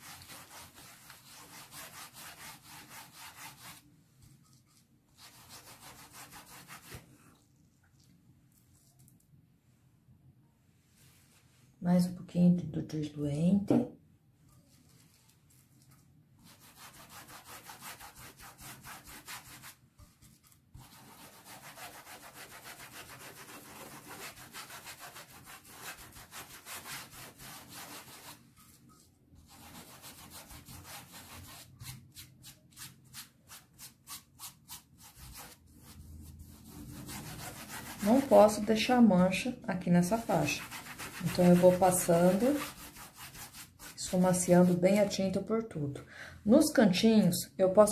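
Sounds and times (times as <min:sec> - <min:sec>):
paintbrush scrubbing on towel: 0:00.0 - 0:09.1, 0:14.5 - 0:45.2.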